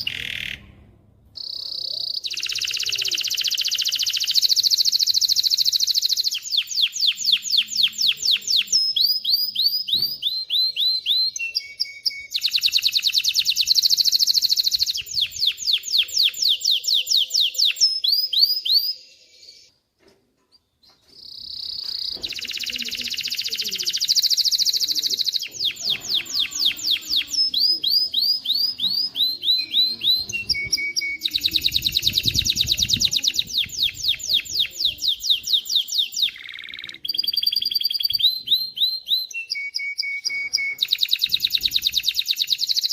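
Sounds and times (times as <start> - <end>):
canary singing trills: 0.0 - 0.8, 1.4 - 19.7, 20.5 - 42.9.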